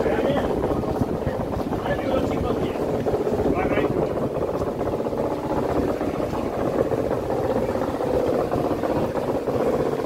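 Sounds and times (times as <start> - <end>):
boat diesel engine idling: 0.0 - 10.0.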